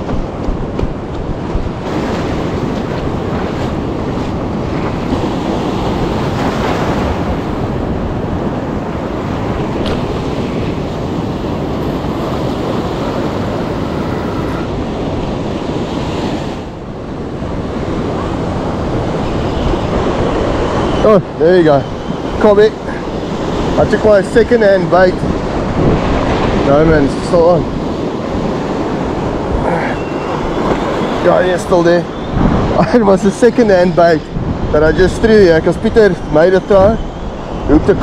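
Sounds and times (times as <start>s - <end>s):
ocean surf: 0.0s - 38.0s
wind buffeting microphone: 0.0s - 38.0s.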